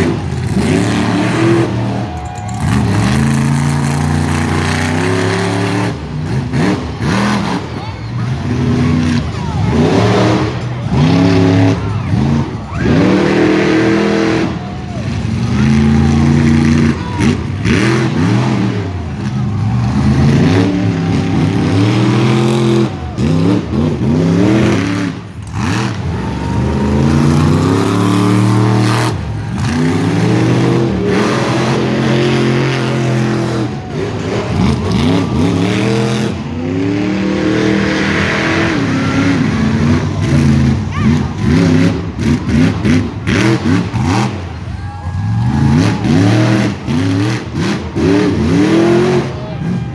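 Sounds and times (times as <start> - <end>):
monster truck engines revving: 0.0 - 49.9.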